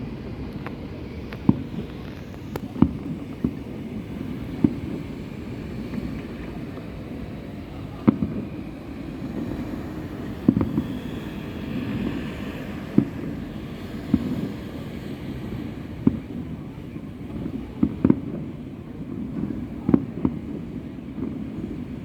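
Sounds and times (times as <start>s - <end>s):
distant fireworks bangs: 0.0s - 22.0s.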